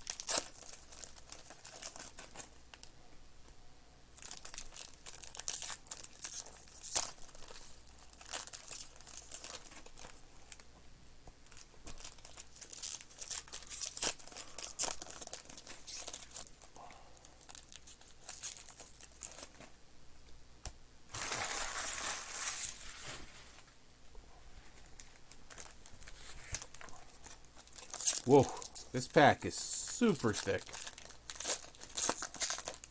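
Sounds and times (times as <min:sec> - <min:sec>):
foil wrappers crinkling and tearing: 0:00.0 - 0:02.9, 0:04.2 - 0:10.6, 0:11.4 - 0:19.7, 0:21.1 - 0:23.7, 0:24.9 - 0:32.9.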